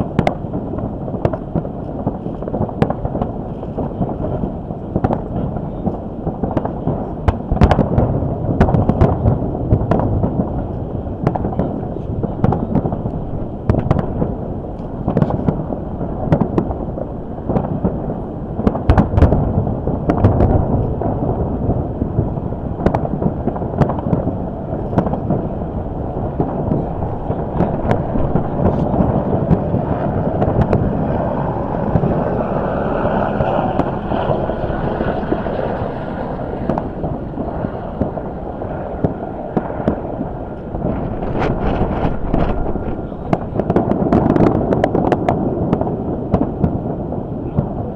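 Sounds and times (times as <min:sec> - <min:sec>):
fireworks bangs: 0:00.0 - 0:47.9
fireworks rumble and crackle: 0:00.0 - 0:47.9
wind noise on microphone: 0:00.0 - 0:47.9.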